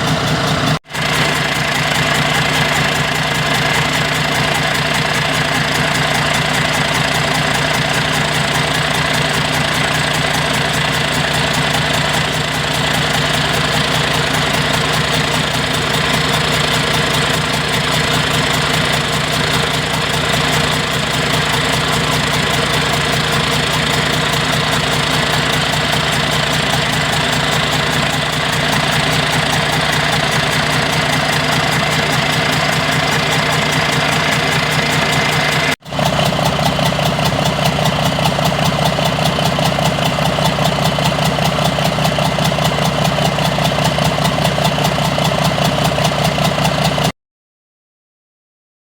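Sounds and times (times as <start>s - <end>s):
engine running steadily: 0.0s - 47.1s.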